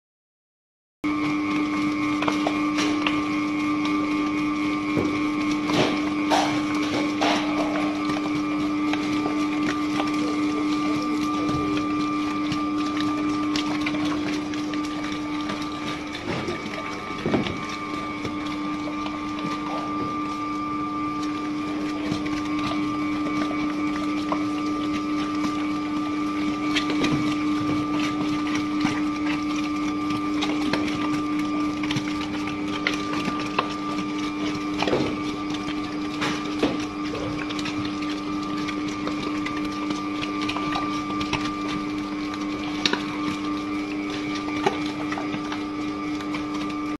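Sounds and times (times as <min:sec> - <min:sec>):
mixer motor hum: 0:01.0 - 0:46.9.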